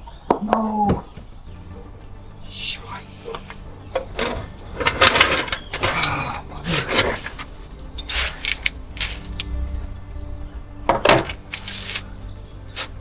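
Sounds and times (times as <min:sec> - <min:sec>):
fuel pump parts clinking: 0:00.0 - 0:13.0.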